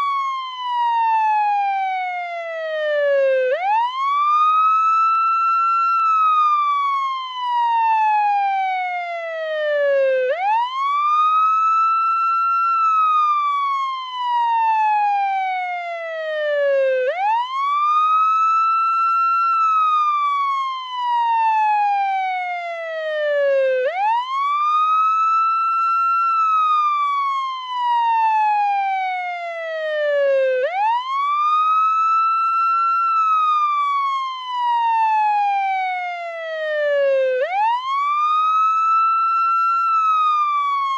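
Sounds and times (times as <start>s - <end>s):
ambulance wail siren: 0.0s - 40.9s.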